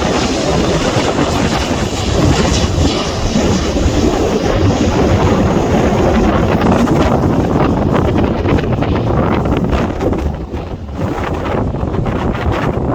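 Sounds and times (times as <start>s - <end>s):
turboprop engines roaring: 0.0s - 12.9s
wind buffeting microphone: 0.0s - 12.9s.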